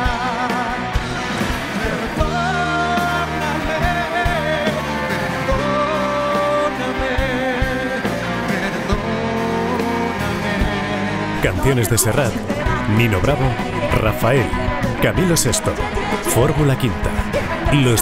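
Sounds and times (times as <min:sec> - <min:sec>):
live band with guitar: 0:00.0 - 0:18.0
person singing with vibrato: 0:01.7 - 0:18.0.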